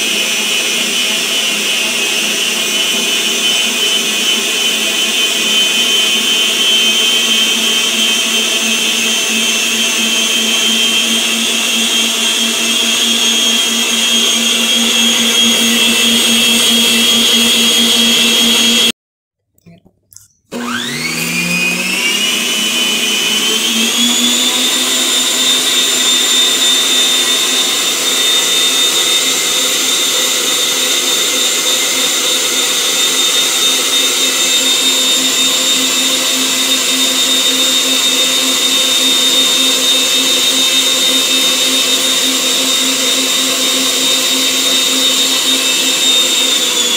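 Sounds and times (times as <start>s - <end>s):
stand mixer motor whining: 0.0s - 18.9s, 20.5s - 46.9s.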